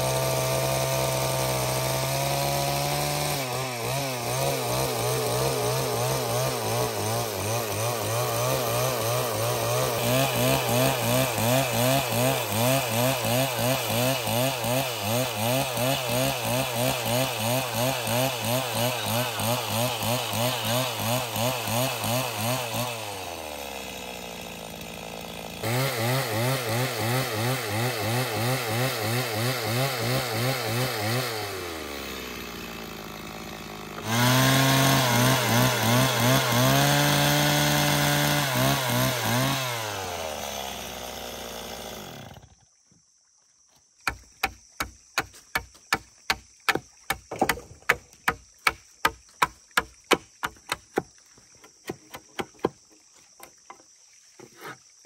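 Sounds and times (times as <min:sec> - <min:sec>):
chainsaw cutting wood: 0:00.0 - 0:42.7, 0:44.0 - 0:54.8.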